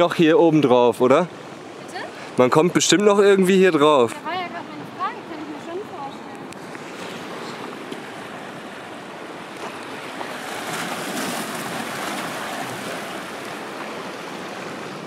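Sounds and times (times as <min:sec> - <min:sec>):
waves washing over rocks: 0:01.4 - 0:15.0.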